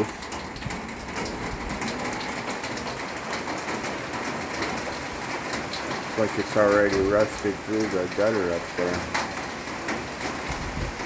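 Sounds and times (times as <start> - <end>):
heavy rain on roofs: 0.0 - 11.0
water dripping onto roof: 0.0 - 11.0.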